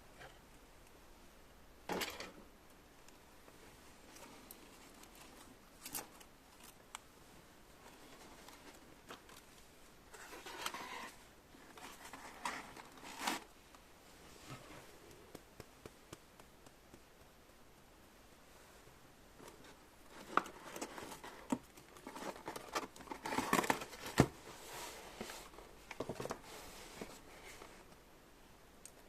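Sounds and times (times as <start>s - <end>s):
rustling handling sounds: 3.4s - 17.9s, 18.5s - 28.0s.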